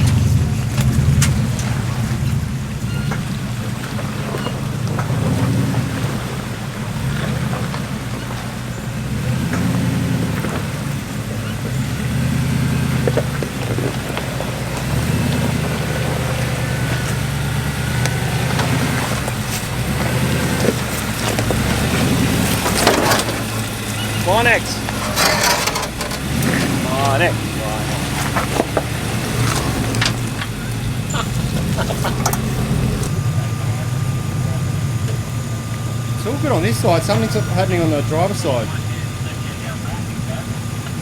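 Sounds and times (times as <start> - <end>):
vehicle engine at low revs: 0.0 - 41.0.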